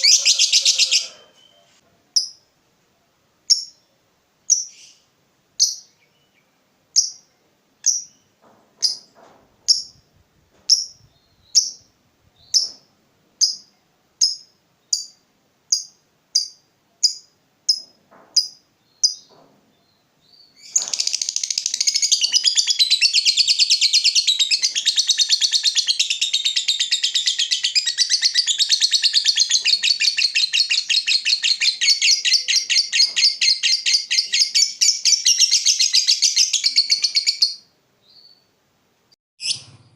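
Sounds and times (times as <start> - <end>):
lovebird chirping and chattering: 0.0 - 2.4, 3.5 - 3.9, 4.5 - 5.0, 5.6 - 6.4, 7.0 - 9.1, 9.7 - 10.0, 10.7 - 12.8, 13.4 - 19.3, 20.3 - 38.4, 39.4 - 39.7.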